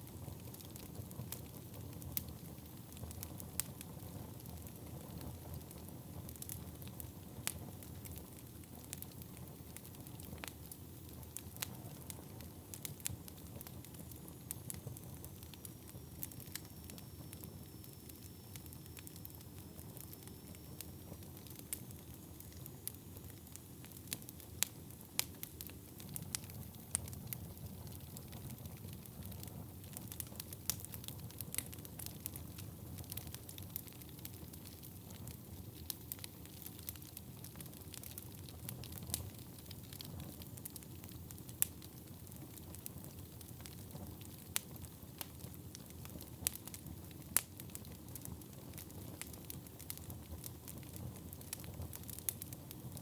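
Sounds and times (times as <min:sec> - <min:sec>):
fire crackling and popping: 0:00.0 - 0:53.0
wood fire burning: 0:00.0 - 0:53.0.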